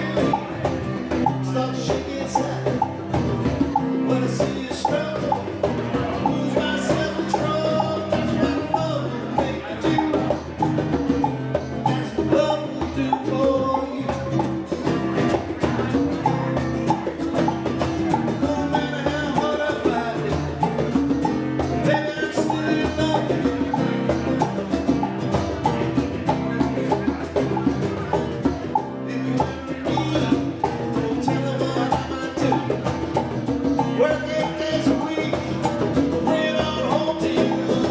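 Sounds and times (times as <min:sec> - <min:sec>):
live band playing: 0:00.0 - 0:37.9.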